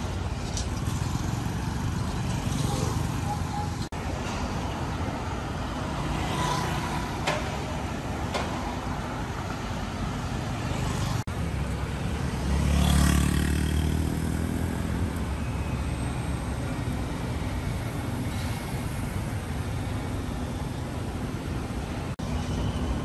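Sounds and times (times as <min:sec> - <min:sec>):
cars and motorbikes passing: 0:00.0 - 0:23.0.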